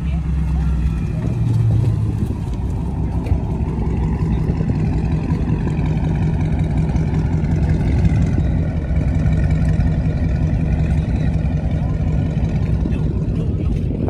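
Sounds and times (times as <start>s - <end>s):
car engine idling rumble: 0.0s - 14.0s.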